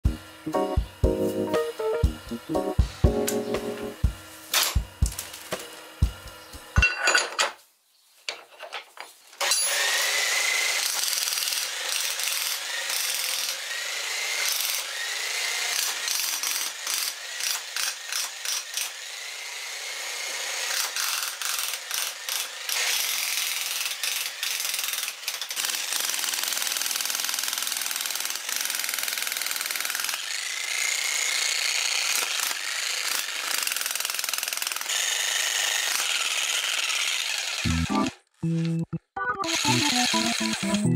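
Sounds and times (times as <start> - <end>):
jack hammer hammering soil: 0.0 - 6.9, 9.4 - 19.2, 20.2 - 38.1, 39.4 - 40.8.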